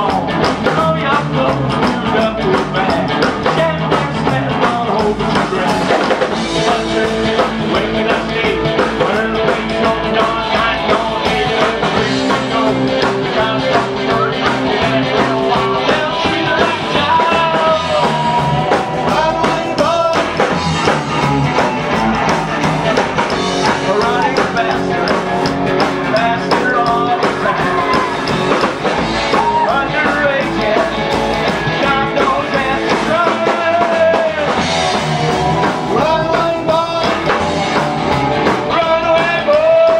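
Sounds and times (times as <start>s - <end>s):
person singing: 0.0s - 20.5s, 23.5s - 35.1s, 35.7s - 37.5s, 38.4s - 39.9s
electric guitar: 0.0s - 39.9s.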